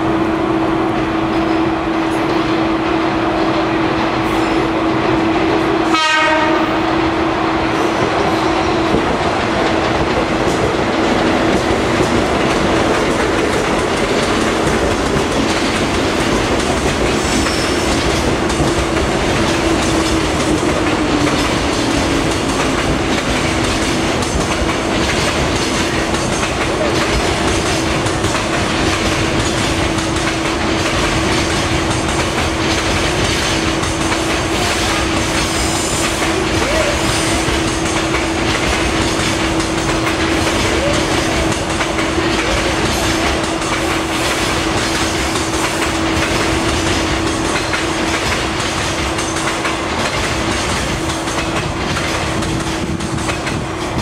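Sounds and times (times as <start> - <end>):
train wheels clattering over rail joints: 7.6 - 54.0.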